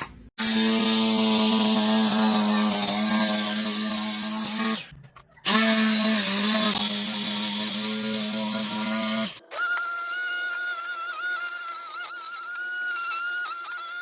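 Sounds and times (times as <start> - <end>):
electric motor whining: 0.4 - 14.0.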